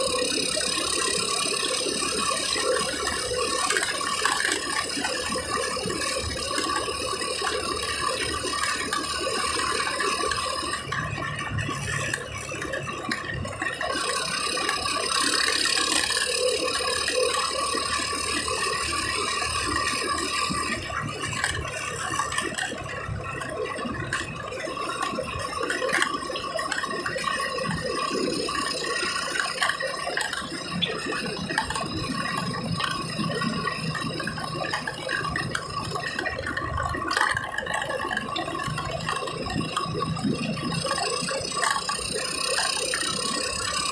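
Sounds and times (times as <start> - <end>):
car engine: 0.0 - 43.9
rattle of loose interior parts: 0.0 - 43.9
road noise: 0.0 - 43.9.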